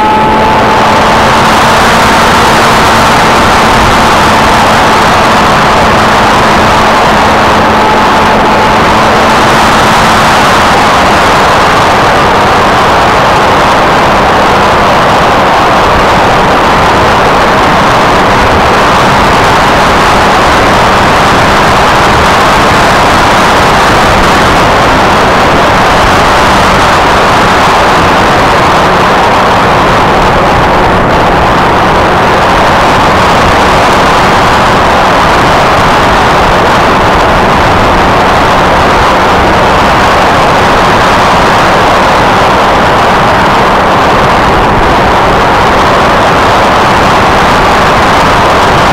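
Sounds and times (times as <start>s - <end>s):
electric motor and propeller: 0.0s - 48.9s
wind rushing: 0.0s - 48.9s.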